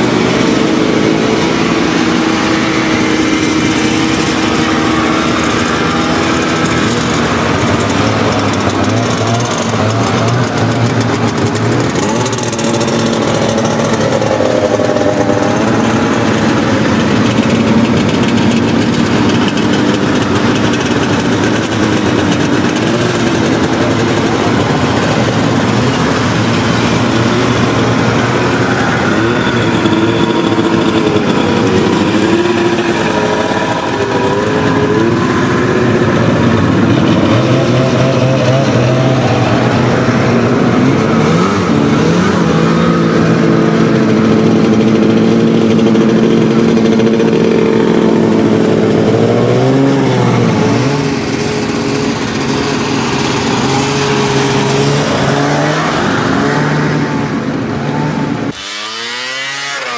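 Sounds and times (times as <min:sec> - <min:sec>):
snowmobile engines running: 0:00.0 - 0:59.9.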